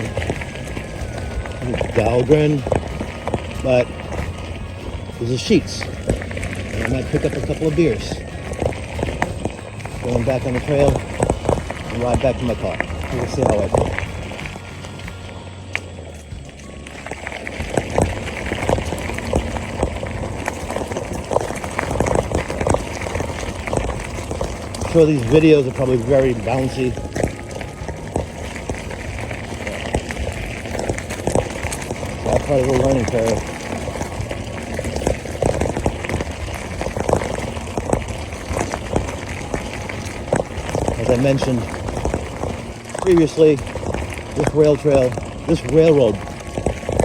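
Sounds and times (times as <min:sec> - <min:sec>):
bike frame rattling: 0:00.0 - 0:47.0
low rumble of tyres on trail: 0:00.0 - 0:47.0.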